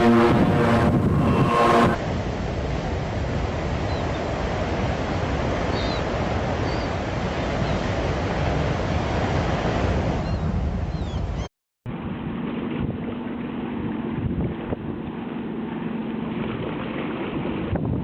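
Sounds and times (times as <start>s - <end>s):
wind and sea rushing: 0.0s - 18.0s
wind buffeting microphone: 0.0s - 18.0s.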